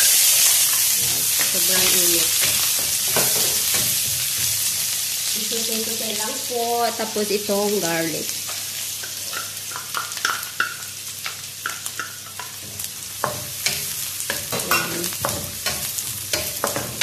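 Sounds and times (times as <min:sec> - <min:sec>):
onion and garlic sizzling in a wok: 0:00.0 - 0:17.0.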